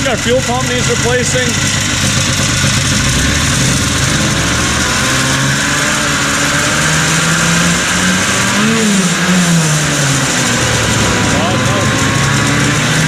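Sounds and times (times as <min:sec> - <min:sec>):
motorcycle engine idling unevenly: 0:00.0 - 0:06.5, 0:08.6 - 0:13.0.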